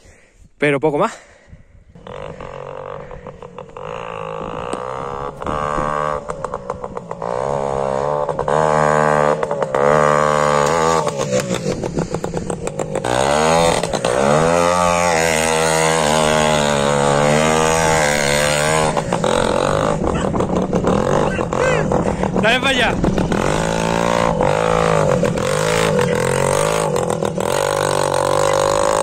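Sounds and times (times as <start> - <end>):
exhaust crackle: 1.9 - 29.0
moped engine revving: 1.9 - 29.0.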